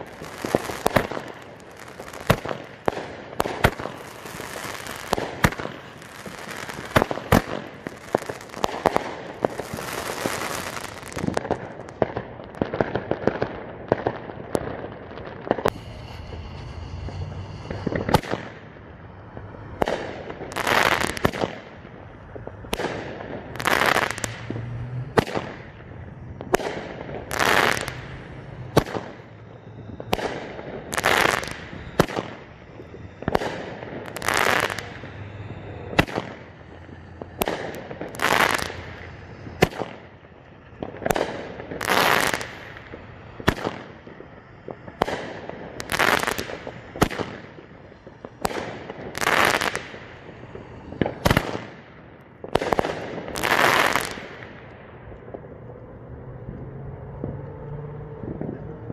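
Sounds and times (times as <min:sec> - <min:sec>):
firework shots cracking and hissing: 0:00.0 - 0:58.9.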